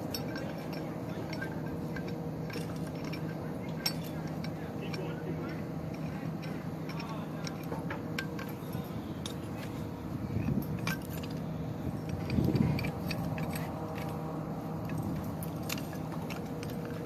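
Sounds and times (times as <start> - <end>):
metallic clinks and jingles: 0.0 - 17.0
steady low hum: 0.0 - 17.0.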